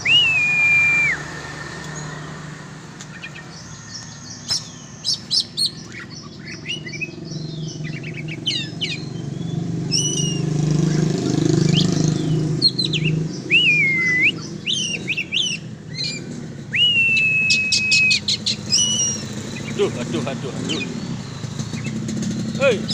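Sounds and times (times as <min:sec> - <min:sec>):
bird singing chirps and whistles: 0:00.0 - 0:02.1, 0:03.1 - 0:22.9
vehicle engine hum: 0:00.0 - 0:22.9.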